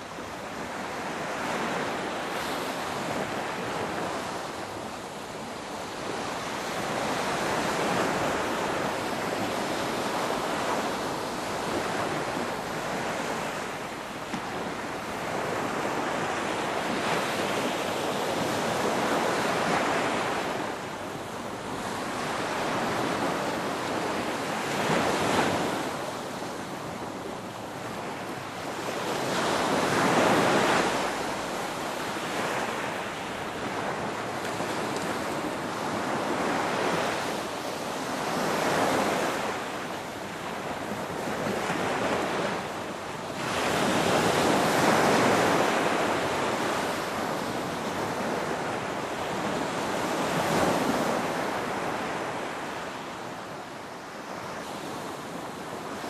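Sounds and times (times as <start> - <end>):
ocean waves breaking: 5.6 - 52.8.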